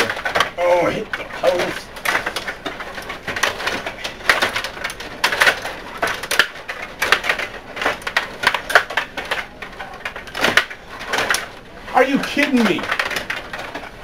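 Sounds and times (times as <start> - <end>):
plastic clacks of table hockey: 0.0 - 11.6, 12.2 - 13.9.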